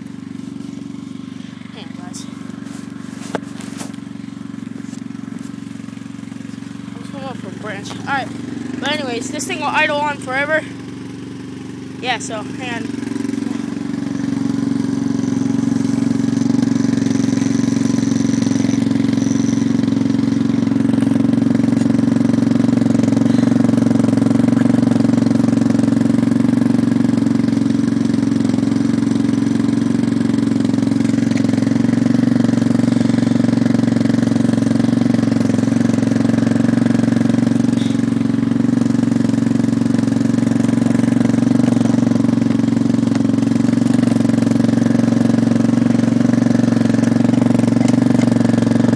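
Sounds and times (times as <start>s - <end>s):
atv engine idling: 0.0s - 48.9s.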